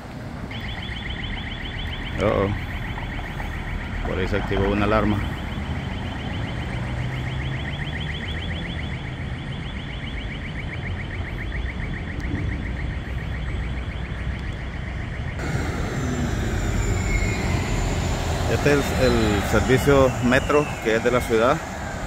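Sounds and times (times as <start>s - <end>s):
traffic rumble: 0.0s - 22.0s
electronic alarm chirping: 0.5s - 4.0s, 5.2s - 22.0s.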